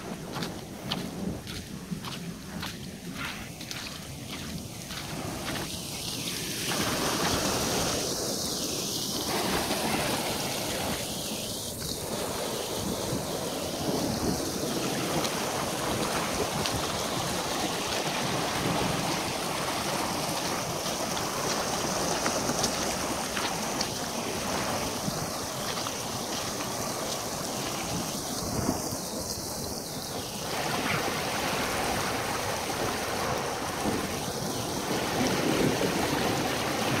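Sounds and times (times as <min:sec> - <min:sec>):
wind buffeting microphone: 0:00.0 - 0:08.5, 0:09.2 - 0:37.0
water rushing down a ditch: 0:00.0 - 0:37.0.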